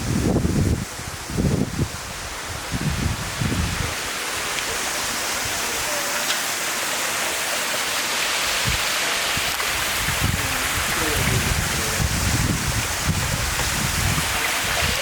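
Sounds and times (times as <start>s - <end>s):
wind buffeting microphone: 0.0s - 5.7s, 8.5s - 15.0s
waterfall rushing: 0.0s - 15.0s.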